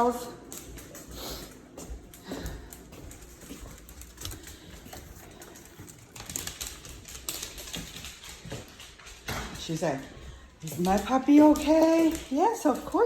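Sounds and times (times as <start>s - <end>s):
dog claws clicking on hard floor: 0.0s - 13.0s.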